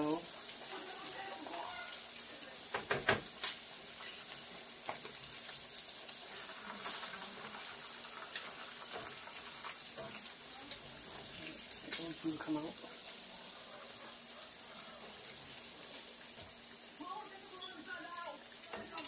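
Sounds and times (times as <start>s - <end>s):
shrimp sizzling in hot oil: 0.0s - 19.0s.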